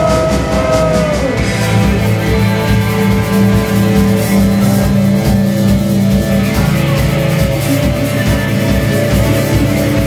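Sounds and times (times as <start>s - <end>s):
live post-punk band playing loudly: 0.0s - 10.0s.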